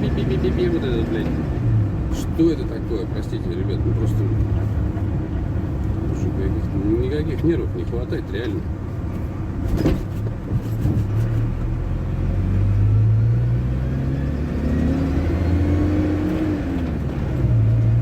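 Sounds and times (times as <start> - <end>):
van engine revving: 0.0 - 18.0.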